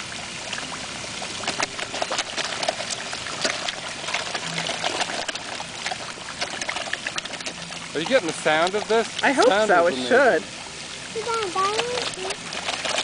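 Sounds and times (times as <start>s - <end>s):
fish splashing at water surface: 0.0s - 13.0s.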